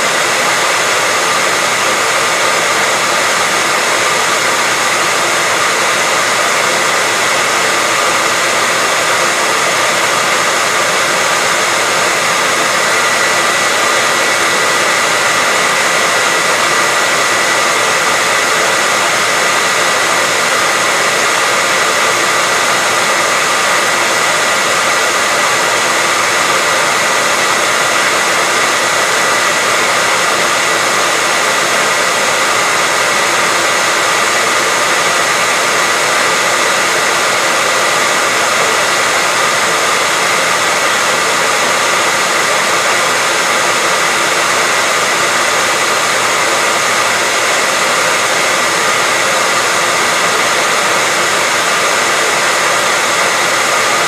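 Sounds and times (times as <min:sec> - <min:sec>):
hairdryer running: 0:00.0 - 0:54.0.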